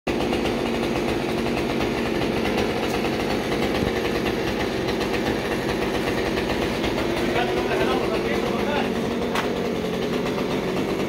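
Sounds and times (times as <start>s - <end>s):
engine running steadily: 0.1s - 11.0s.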